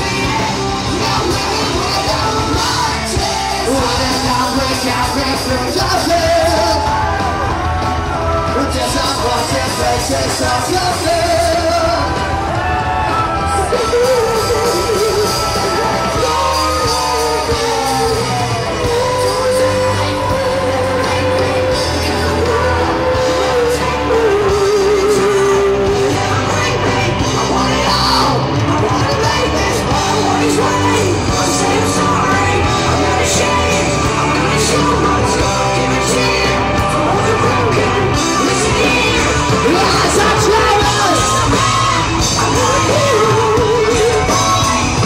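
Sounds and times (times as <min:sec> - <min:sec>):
crowd yelling: 0:00.0 - 0:45.0
live rock band playing: 0:00.0 - 0:45.0.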